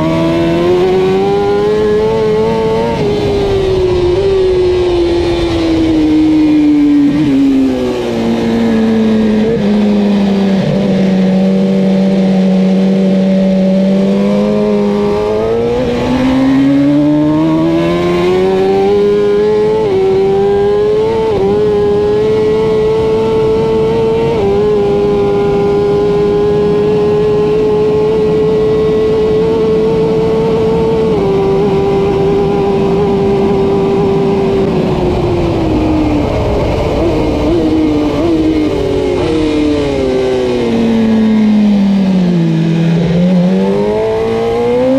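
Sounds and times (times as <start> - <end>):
wind rush: 0.0 - 11.4, 14.1 - 44.9
motorcycle engine revving: 0.0 - 44.9.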